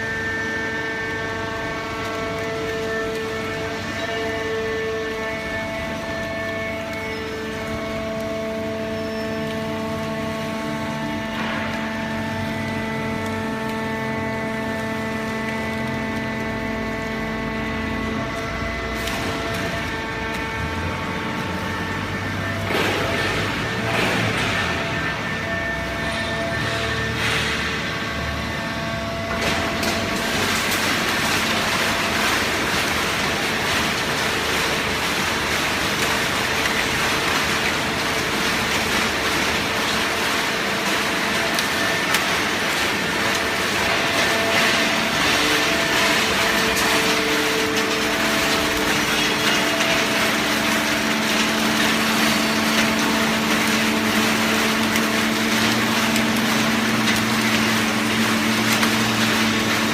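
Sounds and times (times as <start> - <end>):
baling press machine noise: 0.0 - 59.9
hydraulic pump hum: 0.0 - 59.9.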